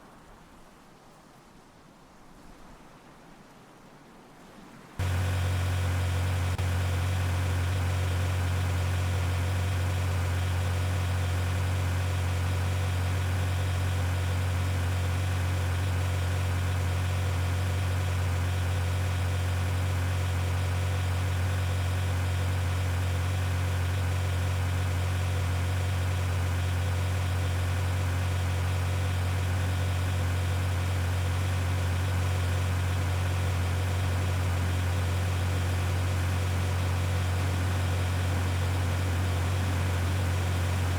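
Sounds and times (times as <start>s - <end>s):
vehicle engine idling: 5.0s - 40.9s.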